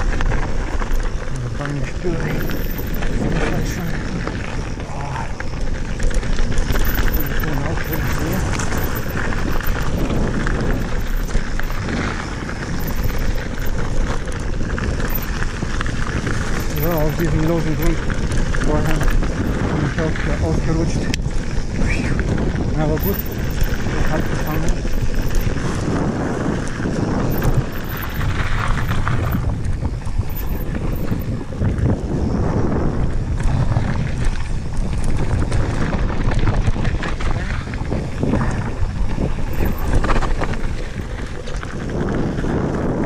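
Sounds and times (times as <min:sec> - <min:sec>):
tyres crunching over stones: 0:00.0 - 0:32.1, 0:33.2 - 0:42.8
bike rattling and knocking: 0:00.0 - 0:43.0
wind buffeting microphone: 0:00.0 - 0:43.0.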